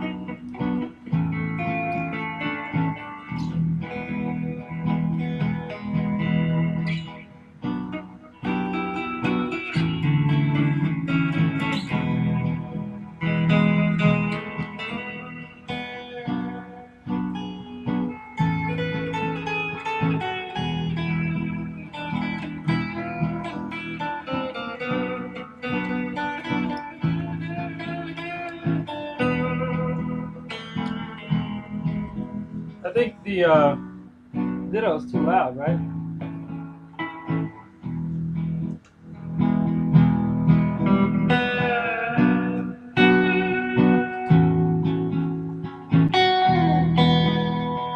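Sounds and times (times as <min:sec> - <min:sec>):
electric guitar lead lines: 0:00.0 - 0:47.9
looped guitar chord part: 0:00.0 - 0:47.9.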